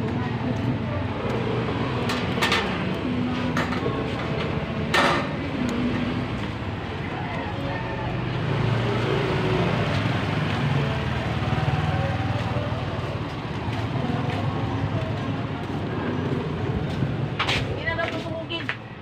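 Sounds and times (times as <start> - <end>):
street traffic hum: 0.0 - 19.0.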